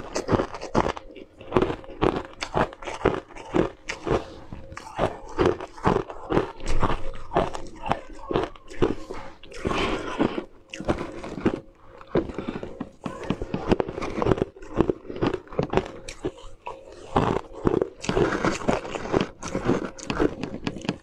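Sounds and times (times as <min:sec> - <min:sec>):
crunching ice between teeth: 0:00.0 - 0:21.0.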